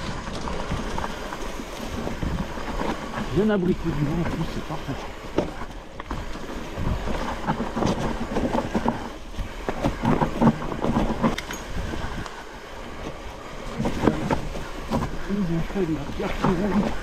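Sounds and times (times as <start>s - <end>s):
bike clicking and rattling: 0.0s - 17.0s
bike tyres crackling over dry leaves: 0.0s - 17.0s.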